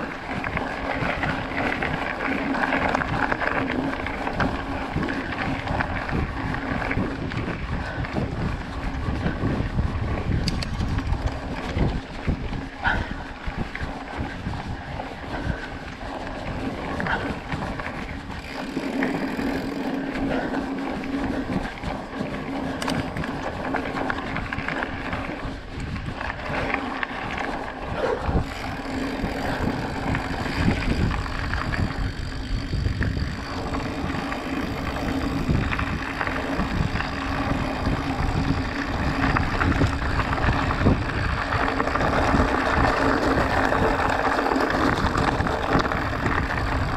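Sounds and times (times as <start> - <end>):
bike rattles and knocks: 0.0 - 46.9
bike tyres on gravel: 0.0 - 46.9.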